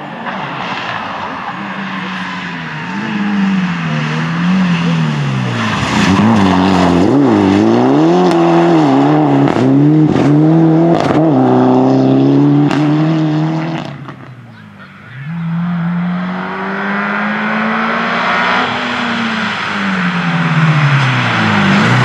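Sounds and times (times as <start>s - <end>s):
rally car engine: 0.0s - 22.0s.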